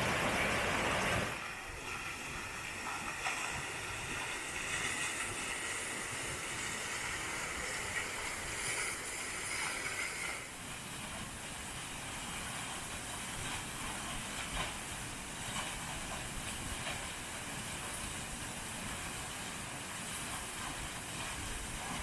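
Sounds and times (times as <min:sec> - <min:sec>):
rushing mountain water: 0:00.0 - 0:22.0.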